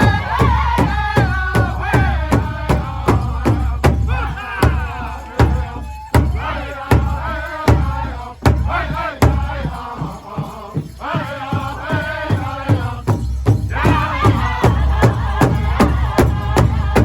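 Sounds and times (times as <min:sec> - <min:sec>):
group singing in unison: 0:00.0 - 0:17.0
steady drum beat: 0:00.0 - 0:17.0.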